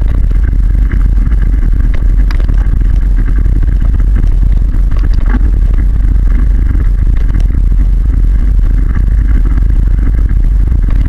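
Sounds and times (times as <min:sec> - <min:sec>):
rumble with rattling and clatter: 0:00.0 - 0:11.0.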